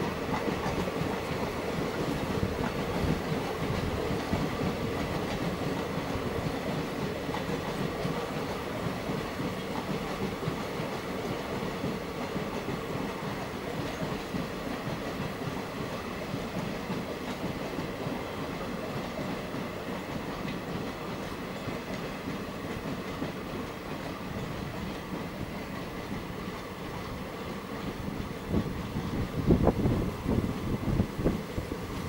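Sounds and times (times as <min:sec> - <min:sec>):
train wheels rolling on track: 0:00.0 - 0:32.0.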